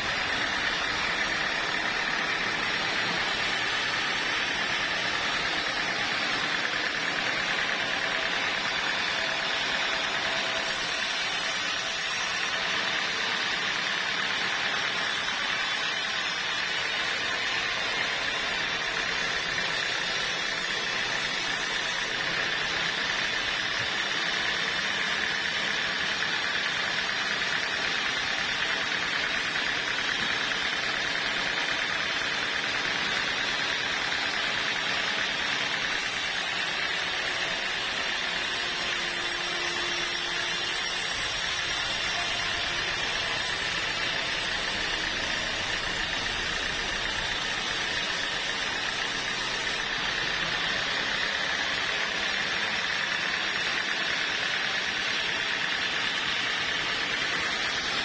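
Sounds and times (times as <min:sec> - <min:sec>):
sawmill motor drone with whine: 0:00.0 - 0:58.0.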